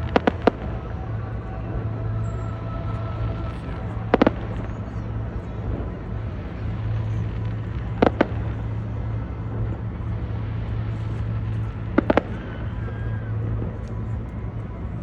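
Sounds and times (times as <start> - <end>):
fireworks bangs: 0.0 - 14.3
low background noise: 0.0 - 15.0.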